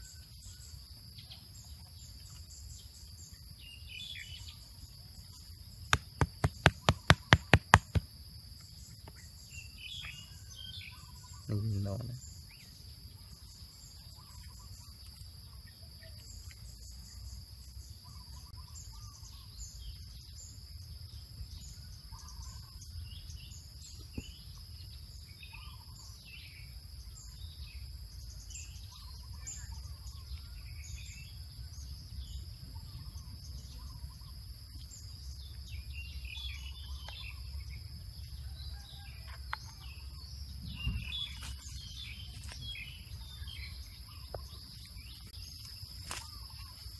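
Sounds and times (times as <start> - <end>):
bird chirps: 0.0 - 8.0, 8.6 - 46.9
insects droning: 0.0 - 46.9.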